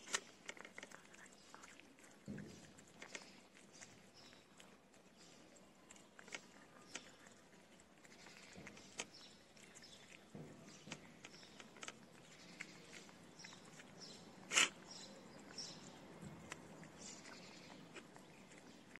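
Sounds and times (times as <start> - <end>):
cats chewing and lapping: 0.0 - 19.0.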